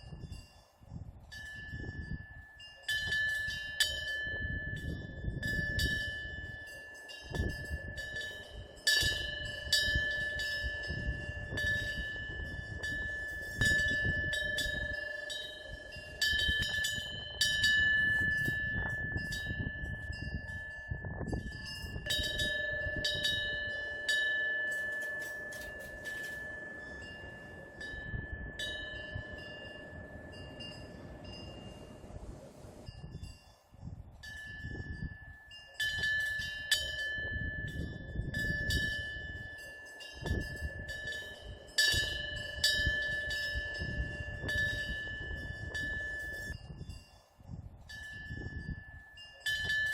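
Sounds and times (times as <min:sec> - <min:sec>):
wind bell ringing: 0:00.0 - 0:49.9.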